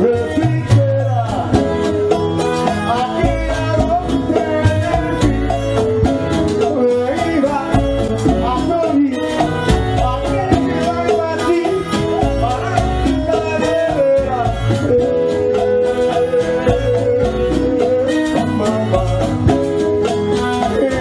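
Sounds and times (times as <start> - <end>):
bass: 0.0 - 21.0
congas: 0.0 - 21.0
percussive beat: 0.0 - 21.0
person singing: 0.0 - 21.0.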